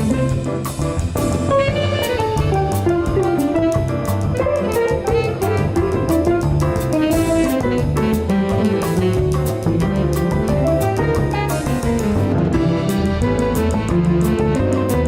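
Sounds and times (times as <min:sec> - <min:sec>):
bass line: 0:00.0 - 0:15.0
jazz melody: 0:00.0 - 0:15.0.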